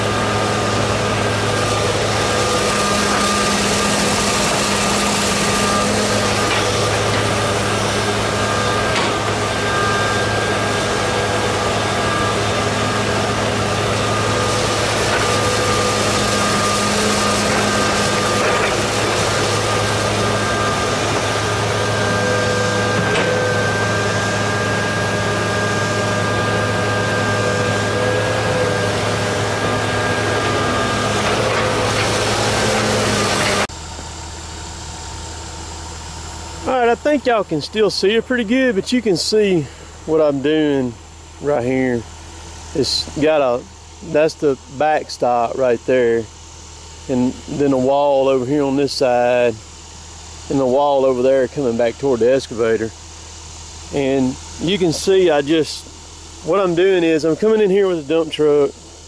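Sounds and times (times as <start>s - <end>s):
excavator diesel engine running: 0.0s - 59.0s
steady whine: 0.0s - 59.0s.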